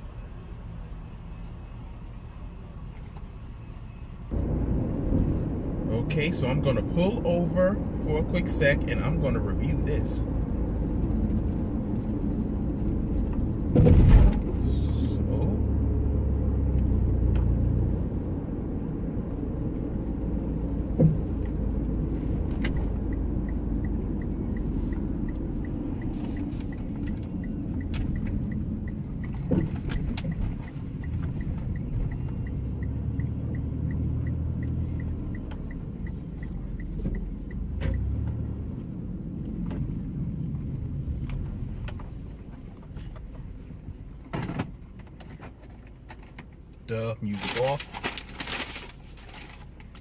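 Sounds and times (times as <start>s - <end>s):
turn signal ticking: 0.0s - 13.8s, 14.4s - 48.7s
car engine and road rumble: 0.0s - 50.0s.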